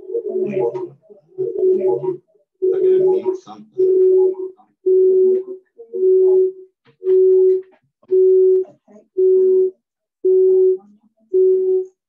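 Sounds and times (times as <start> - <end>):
phone busy signal beeping: 0.1 - 8.6, 9.2 - 9.7, 10.3 - 12.0.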